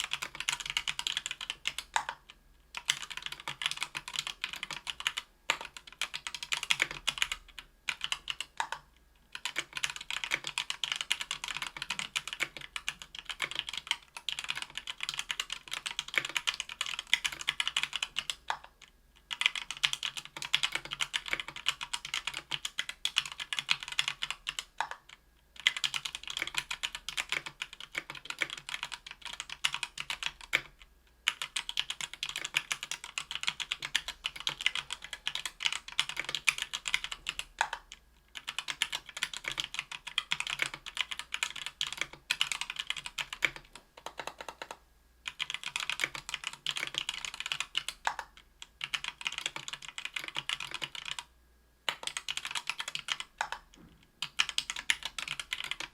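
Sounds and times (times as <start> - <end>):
fast mechanical keyboard typing: 0.0 - 51.3, 51.9 - 55.9.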